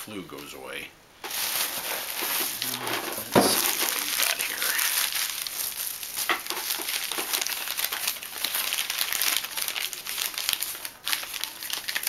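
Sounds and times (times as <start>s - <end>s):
wrapping crinkling: 1.2s - 12.0s.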